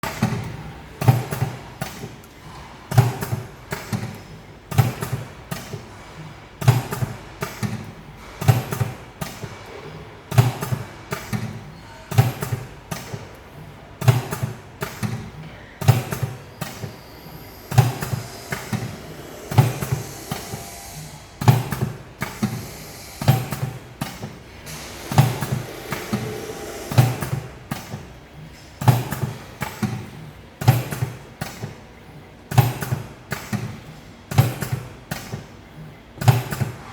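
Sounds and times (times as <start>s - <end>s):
machine clacking with thump: 0.0s - 35.6s, 36.2s - 36.9s
light machine clicks: 0.1s - 5.9s, 6.6s - 31.8s, 32.5s - 35.6s, 36.2s - 36.9s.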